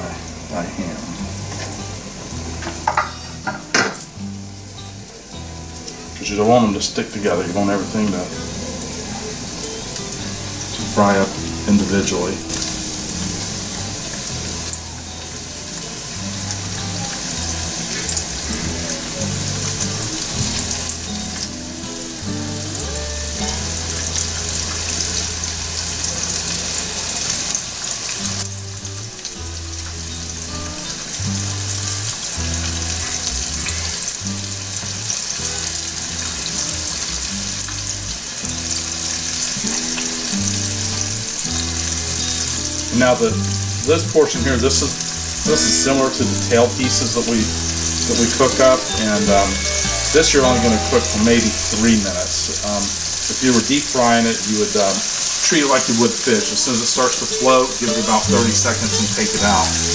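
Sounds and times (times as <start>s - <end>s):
background music with bass: 0.0s - 59.9s
hot oil sizzling and bubbling: 0.0s - 59.9s.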